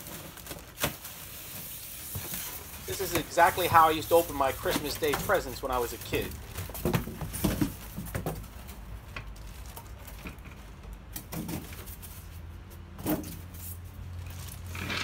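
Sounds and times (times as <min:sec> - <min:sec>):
plastic bag rustling: 0:00.0 - 0:10.8, 0:13.4 - 0:15.0
foam packing pulled and tossed: 0:00.0 - 0:12.4.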